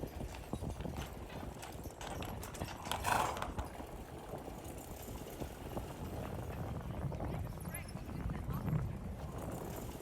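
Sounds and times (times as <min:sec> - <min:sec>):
horse hooves clip-clopping on street: 0:00.0 - 0:10.0.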